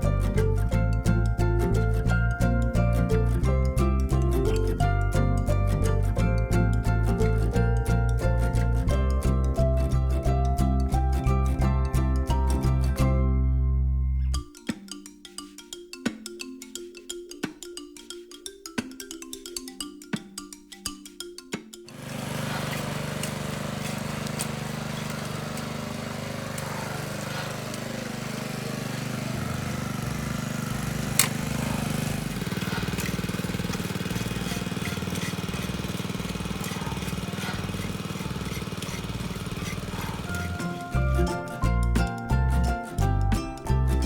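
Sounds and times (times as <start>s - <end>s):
small farm machine engine: 0.0s - 13.4s, 21.9s - 44.0s.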